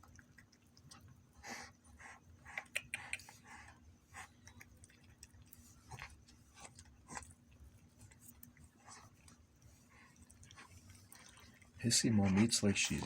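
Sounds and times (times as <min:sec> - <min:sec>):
cat chewing food: 0:00.0 - 0:13.0.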